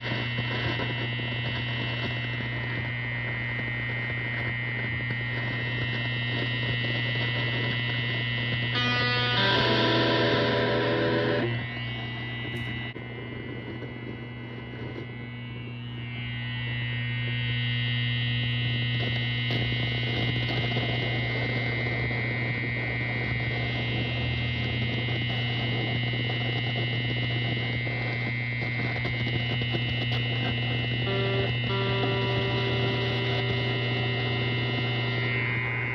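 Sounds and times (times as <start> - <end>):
guitar amplifier mains hum: 0.0 - 35.9
high-pitched whine: 0.0 - 35.9.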